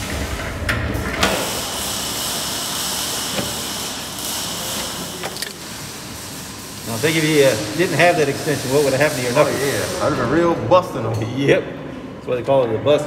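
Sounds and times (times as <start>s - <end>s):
steady hiss: 0.0s - 11.1s.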